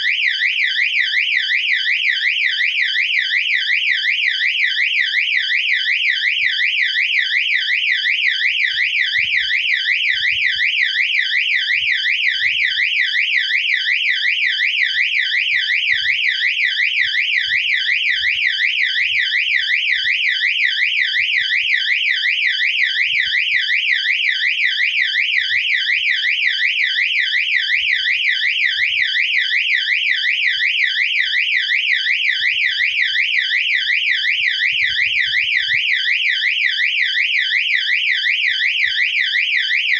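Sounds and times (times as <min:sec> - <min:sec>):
fire alarm siren: 0:00.0 - 0:39.9.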